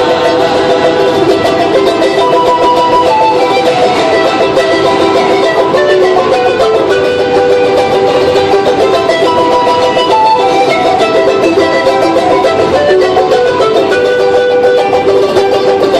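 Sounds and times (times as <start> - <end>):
plucked string instrument played fast: 0.0 - 15.9.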